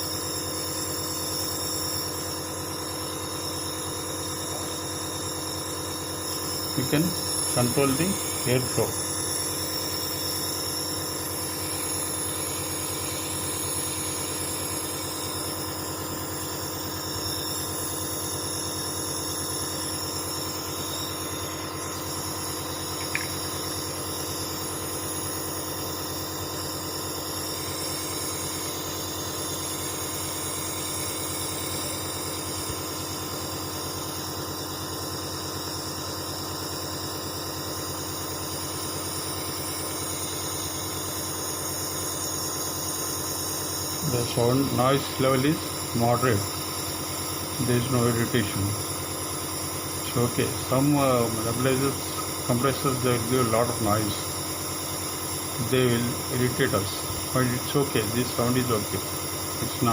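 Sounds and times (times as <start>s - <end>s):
nebulizer compressor humming: 0.0s - 59.9s.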